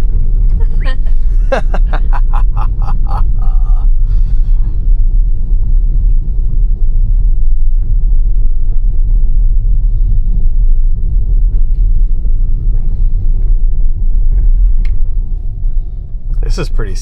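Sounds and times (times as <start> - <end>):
tyres rumbling on snowy road: 0.0 - 17.0.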